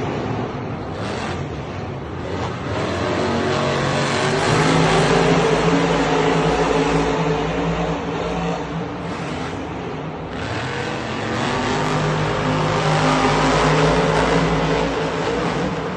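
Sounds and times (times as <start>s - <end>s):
truck engine running loudly: 0.0s - 15.9s.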